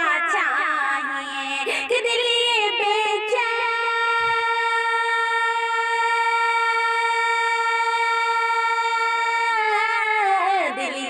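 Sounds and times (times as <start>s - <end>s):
woman singing a long note: 2.0s - 11.0s.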